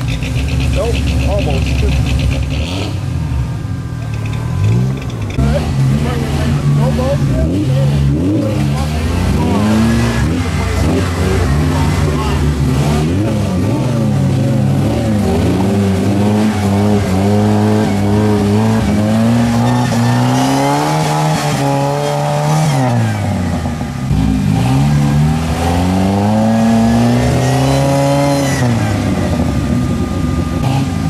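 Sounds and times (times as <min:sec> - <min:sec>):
engine revving under load: 0:00.0 - 0:31.0.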